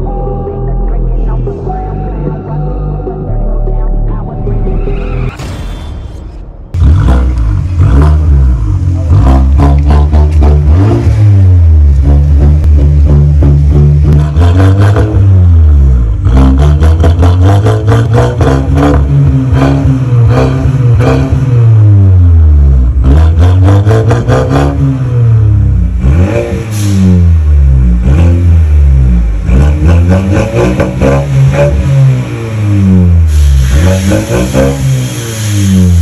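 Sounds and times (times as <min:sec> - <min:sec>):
car engine revving: 0:01.2 - 0:36.0
exhaust crackles: 0:06.7 - 0:36.0.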